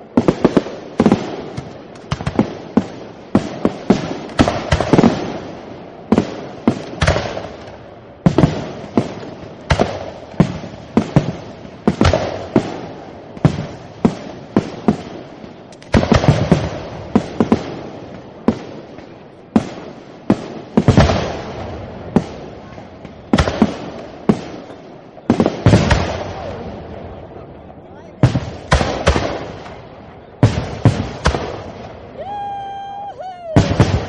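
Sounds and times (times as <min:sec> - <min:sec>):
fireworks banging with echo: 0:00.0 - 0:34.0
fireworks crackle: 0:00.0 - 0:34.0.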